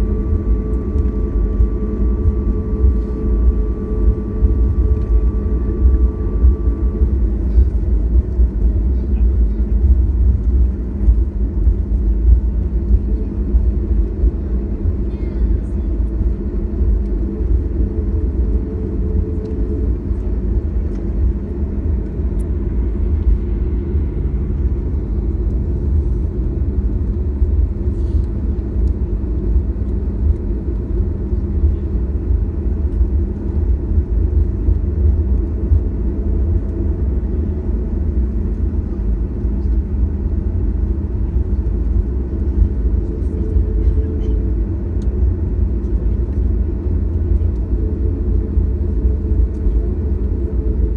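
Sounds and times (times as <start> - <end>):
aircraft cabin rumble: 0.0 - 50.9
jet engines idling hum: 0.0 - 50.9.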